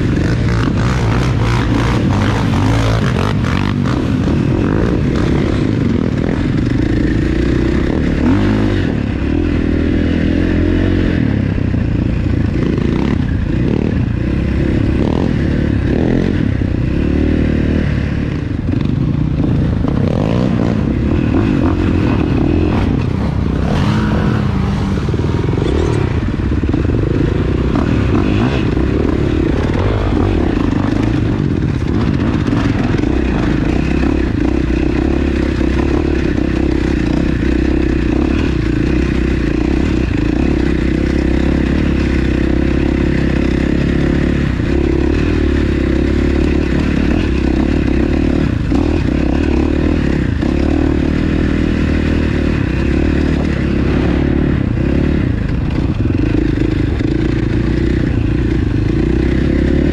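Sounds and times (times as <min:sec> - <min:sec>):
two-stroke atv engine running: 0:00.0 - 0:59.9.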